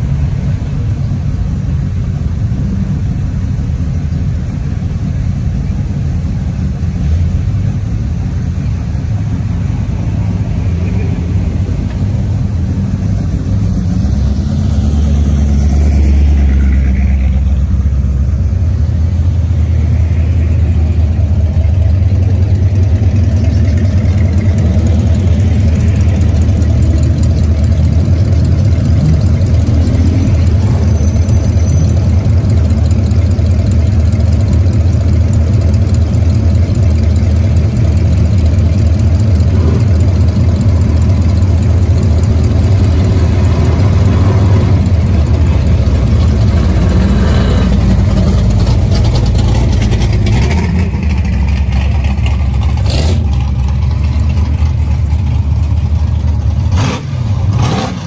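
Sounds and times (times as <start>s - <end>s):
car engines rumbling: 0.0s - 58.0s.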